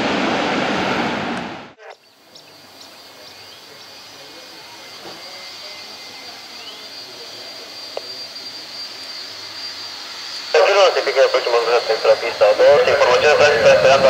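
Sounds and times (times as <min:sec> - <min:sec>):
jet engines whining at idle: 0:00.0 - 0:14.0.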